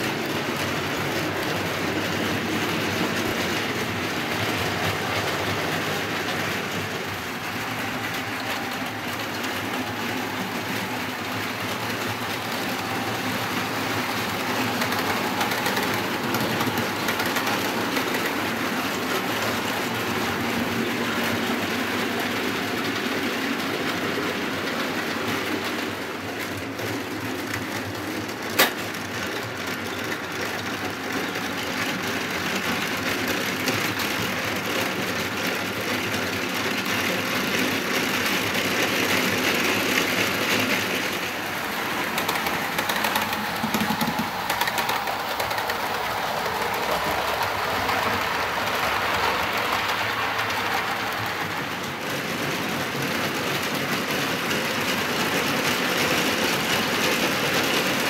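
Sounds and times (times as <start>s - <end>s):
model trains rattling on track: 0.0s - 58.0s.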